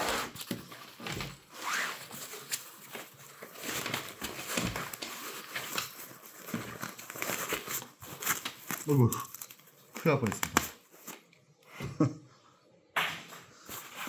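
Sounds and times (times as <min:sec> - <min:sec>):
fabric and foam rustling: 0:00.0 - 0:11.3, 0:13.0 - 0:14.0.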